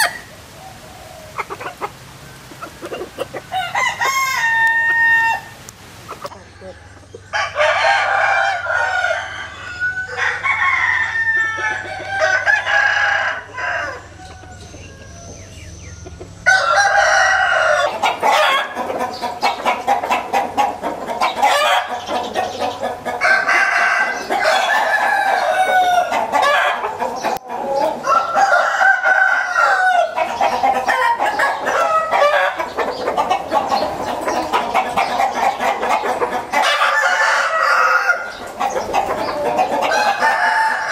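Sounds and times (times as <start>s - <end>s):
roosters crowing: 0.0s - 40.9s.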